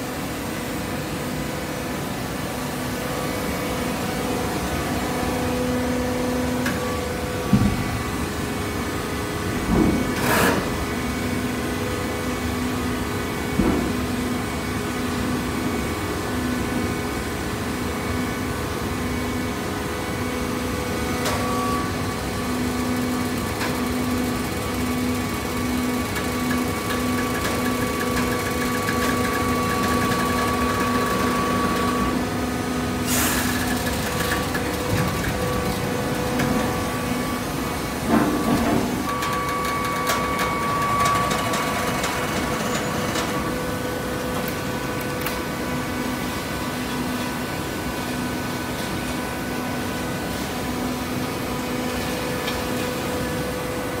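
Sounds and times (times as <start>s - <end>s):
baler motor and pump hum: 0.0s - 54.0s.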